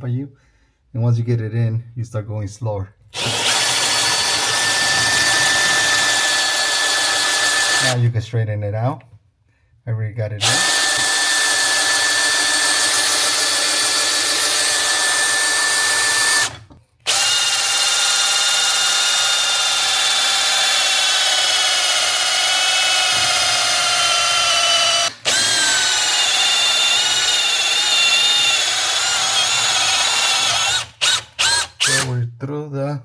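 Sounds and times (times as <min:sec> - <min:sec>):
drill grinding through tile: 0:03.1 - 0:08.0, 0:10.4 - 0:32.1.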